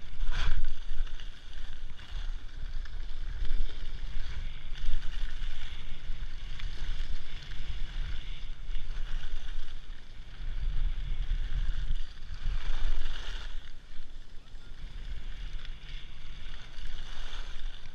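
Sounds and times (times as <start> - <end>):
skis sliding on snow: 0.0 - 17.9
wind buffeting microphone: 0.0 - 17.9.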